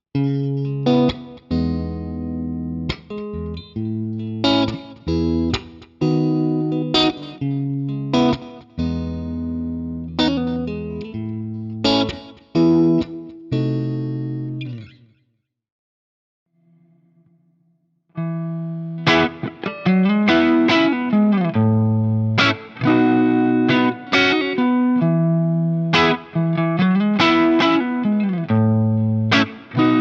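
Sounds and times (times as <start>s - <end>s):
electric guitar chords ringing: 0.2s - 15.1s, 18.2s - 30.0s.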